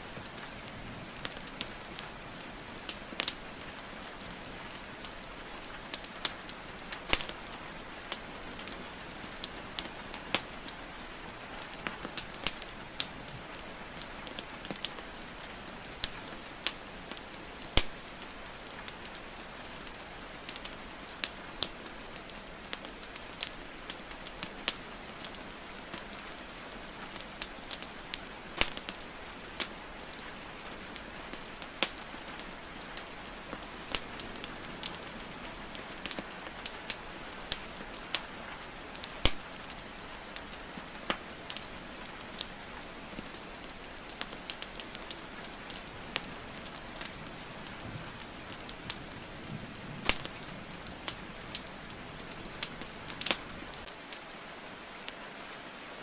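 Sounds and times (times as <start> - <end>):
rainfall hissing: 0.0 - 56.0
wood fire crackling: 0.0 - 56.0.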